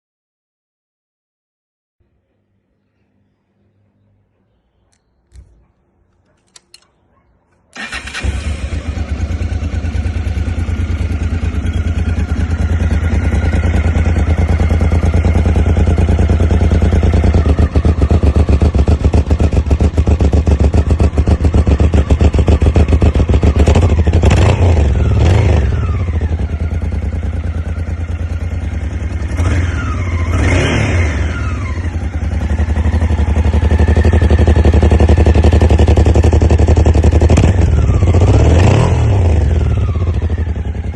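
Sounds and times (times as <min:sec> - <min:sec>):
motorcycle engine idling and revving: 0:07.8 - 0:40.9.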